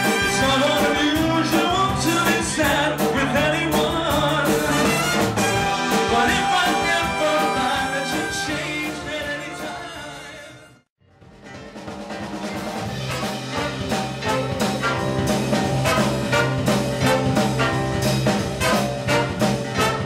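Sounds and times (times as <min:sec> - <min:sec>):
live band with lead singer: 0:00.0 - 0:10.8, 0:11.6 - 0:20.0
trumpet and horns: 0:00.0 - 0:10.9, 0:12.5 - 0:20.0.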